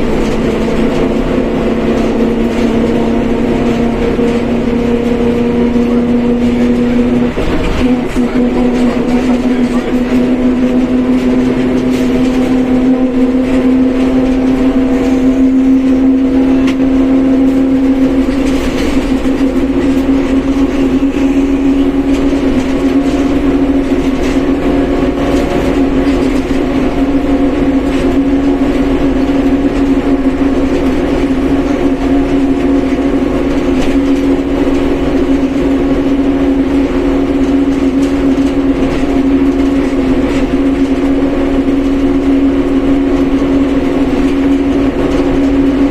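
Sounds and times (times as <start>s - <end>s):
bus differential whine: 0.0s - 45.9s
bus engine: 0.0s - 45.9s
road rumble: 0.0s - 45.9s.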